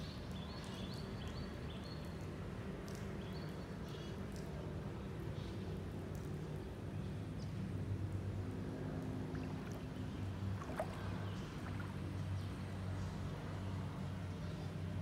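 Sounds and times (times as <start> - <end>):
low engine hum: 2.5 - 15.0.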